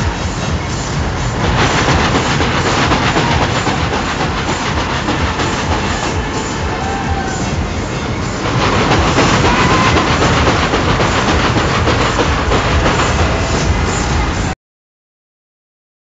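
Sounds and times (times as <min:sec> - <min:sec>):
ride cars rumbling on rails: 0:00.0 - 0:14.6.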